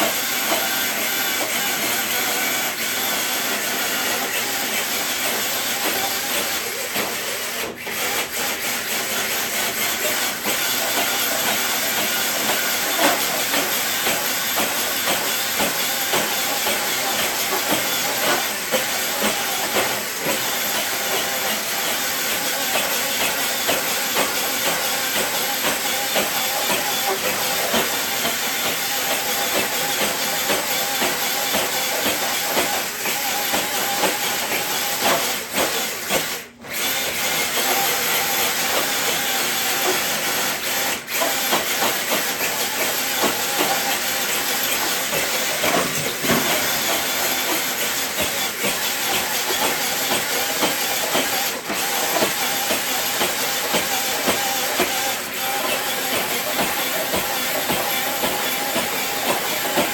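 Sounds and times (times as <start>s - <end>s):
rc truck running: 0.0s - 59.9s.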